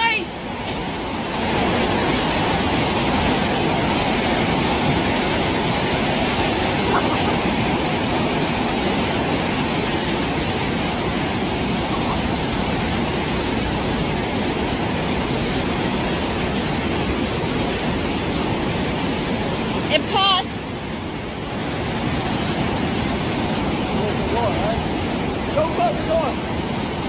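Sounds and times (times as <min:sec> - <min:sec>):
heavy rain beating on door: 0:00.0 - 0:27.0
storm wind: 0:00.0 - 0:27.0.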